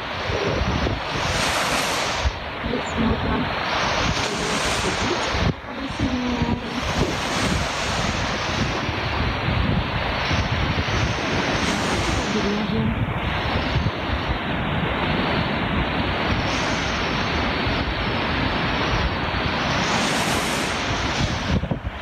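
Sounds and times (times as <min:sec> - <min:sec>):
sea waves washing ashore: 0:00.0 - 0:22.0
wind buffeting microphone: 0:00.0 - 0:22.0.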